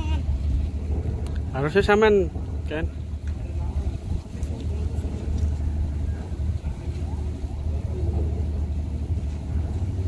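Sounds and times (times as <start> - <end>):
marine engine droning: 0.0 - 10.0.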